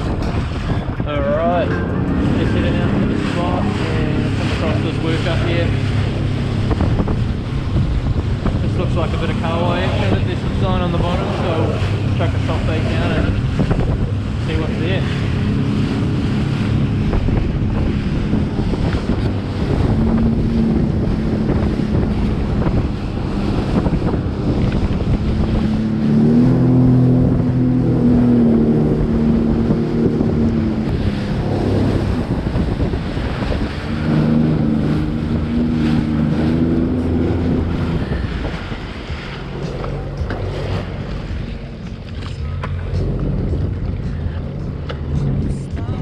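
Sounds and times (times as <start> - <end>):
jet ski engine drone: 0.0 - 46.0
water rushing against hull: 0.0 - 46.0
wind buffeting microphone: 0.0 - 46.0.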